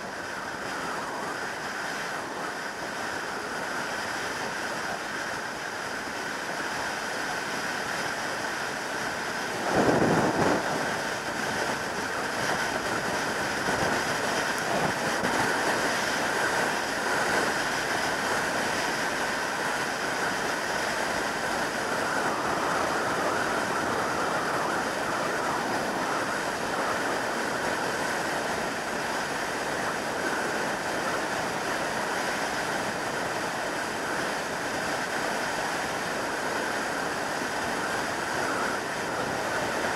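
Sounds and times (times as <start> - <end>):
loud wind buffet: 0.0 - 39.9
wind rushing over microphone: 0.0 - 39.9.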